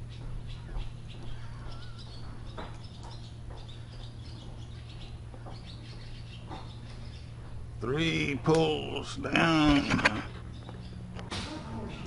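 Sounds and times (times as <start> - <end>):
small birds chirping: 0.0 - 11.3
steady low hum: 0.0 - 12.0.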